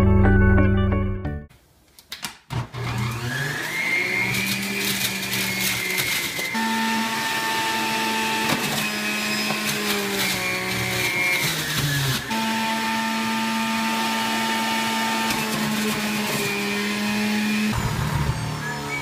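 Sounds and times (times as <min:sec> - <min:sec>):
juicer motor whining: 0:02.7 - 0:19.0.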